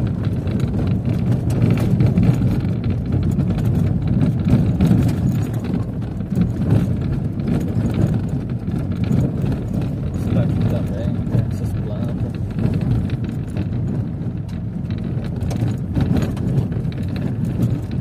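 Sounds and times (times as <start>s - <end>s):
rattles and knocks: 0.0s - 18.0s
tyres and engine rumbling: 0.0s - 18.0s.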